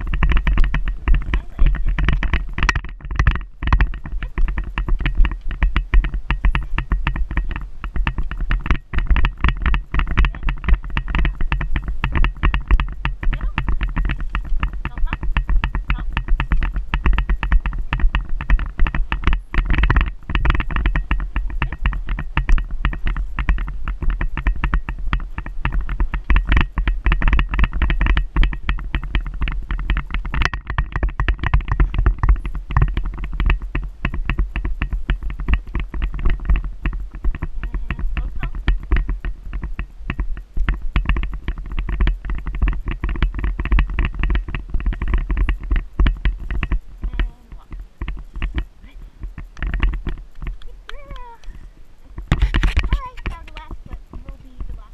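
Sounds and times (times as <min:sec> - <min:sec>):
horse hoofbeats on sand: 0:00.0 - 0:54.9
rider and camera jostling: 0:00.0 - 0:54.9
wind buffeting microphone: 0:00.0 - 0:54.9.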